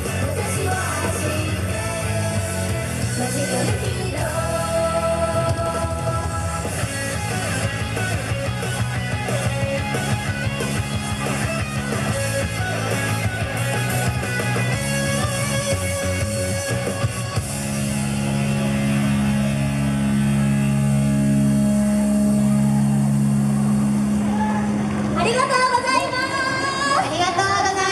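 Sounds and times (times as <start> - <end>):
drums: 0.0 - 25.3
electric guitar rock music: 0.0 - 25.9.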